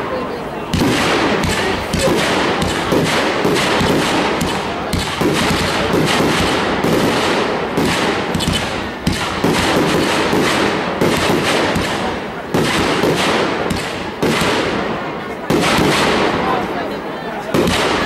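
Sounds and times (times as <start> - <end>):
fireworks bursting with loud bangs: 0.0 - 18.0.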